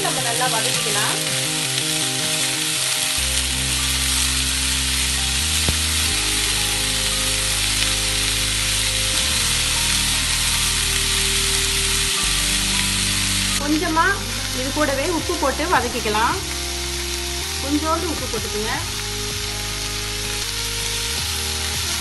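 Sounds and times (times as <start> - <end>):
low background music: 0.0 - 22.0
vegetables sizzling in oil: 0.0 - 22.0.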